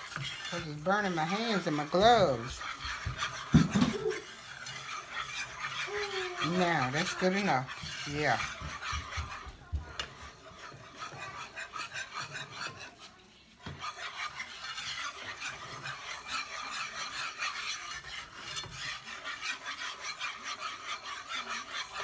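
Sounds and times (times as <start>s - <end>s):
whisk scraping a pan: 0.0s - 22.0s.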